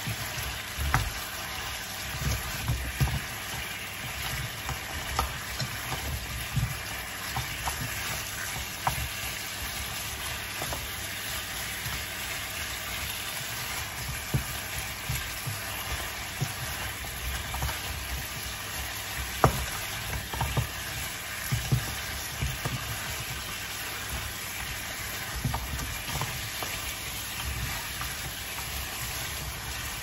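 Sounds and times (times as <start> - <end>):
ribs sizzling in a pan: 0.0 - 30.0.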